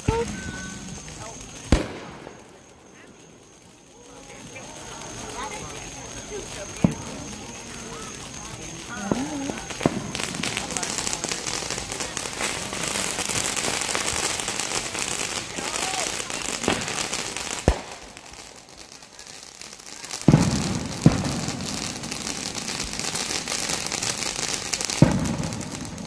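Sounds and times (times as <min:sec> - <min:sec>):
firework bangs: 0:00.0 - 0:26.0
firework fountain hissing and crackling: 0:00.0 - 0:26.0.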